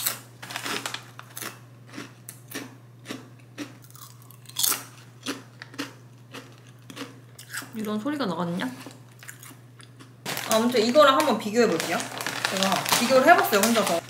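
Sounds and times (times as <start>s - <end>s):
person crunching crisp chips: 0.0s - 7.8s, 9.1s - 14.0s.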